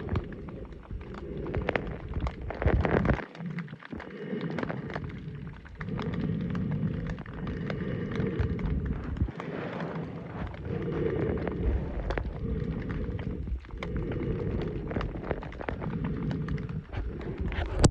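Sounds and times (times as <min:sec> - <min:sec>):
scattered clicks and crackles: 0:00.0 - 0:17.9.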